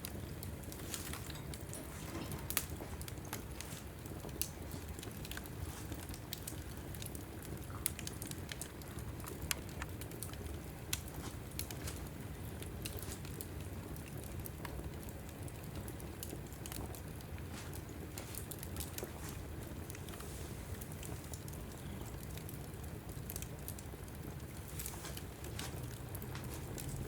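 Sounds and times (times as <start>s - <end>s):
fire rumbling: 0.0s - 27.0s
wood crackling and popping: 0.0s - 27.0s.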